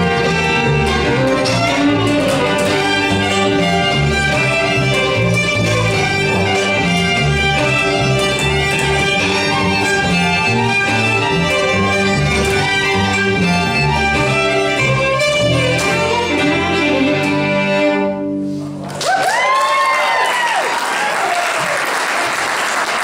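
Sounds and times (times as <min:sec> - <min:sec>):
fiddles playing folk tune: 0:00.0 - 0:18.6
walking upright bass: 0:00.0 - 0:18.8.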